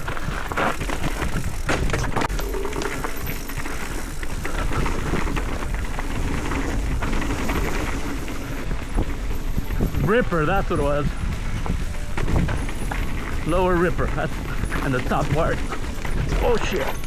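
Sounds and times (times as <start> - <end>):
mountain bike clattering: 0.0 - 17.0
wind rushing over microphone: 0.0 - 17.0.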